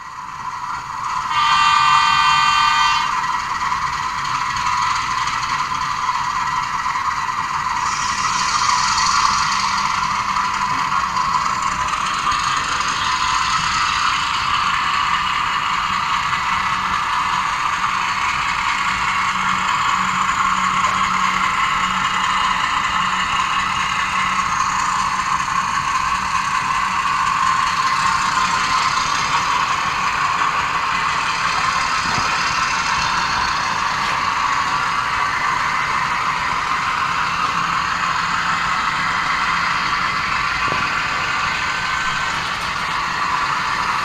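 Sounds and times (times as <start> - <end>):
model train motor whirring: 0.0 - 44.0.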